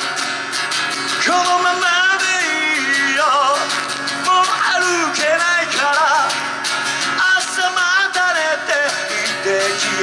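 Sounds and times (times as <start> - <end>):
acoustic guitar strummed: 0.0 - 10.0
man singing through a pa: 1.2 - 10.0.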